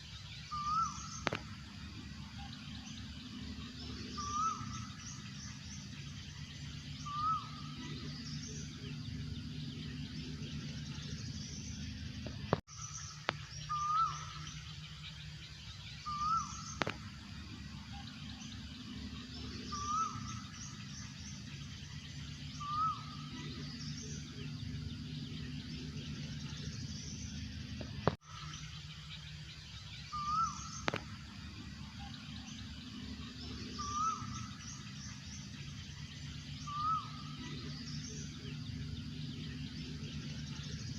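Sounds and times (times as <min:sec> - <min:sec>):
faint bird chirps: 0:00.0 - 0:40.9
steady low hum: 0:00.0 - 0:40.9.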